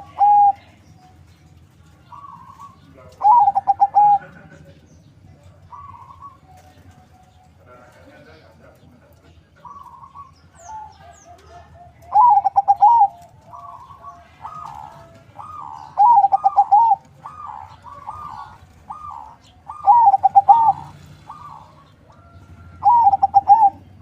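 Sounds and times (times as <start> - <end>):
dove cooing: 0.0 - 4.8, 5.4 - 8.9, 9.6 - 24.0.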